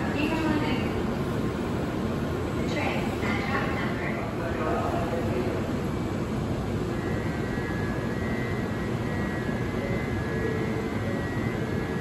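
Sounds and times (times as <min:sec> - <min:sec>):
electric train hum: 0:00.0 - 0:12.0
faint high whine: 0:00.0 - 0:12.0.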